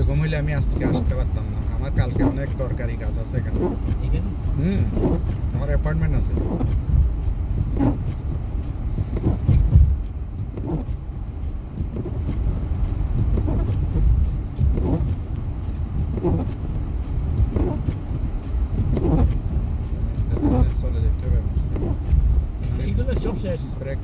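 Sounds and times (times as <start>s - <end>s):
road and engine rumble: 0.0s - 24.0s
windshield wipers sweeping: 0.0s - 24.0s.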